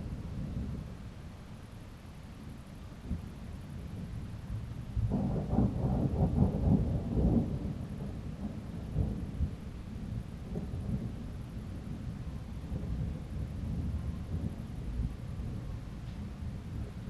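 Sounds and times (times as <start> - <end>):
thunder rumbling: 3.0 - 17.0.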